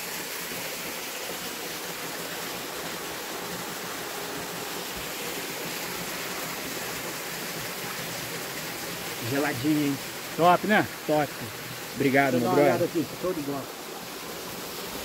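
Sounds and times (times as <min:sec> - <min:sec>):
stream rushing water: 0:00.0 - 0:15.0.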